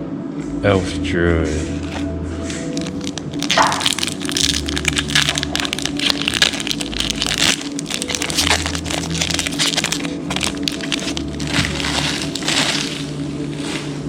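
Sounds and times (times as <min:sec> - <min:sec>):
background music: 0:00.0 - 0:14.0
cards rustling: 0:01.7 - 0:14.0
foil wrapper crinkling: 0:01.7 - 0:14.0.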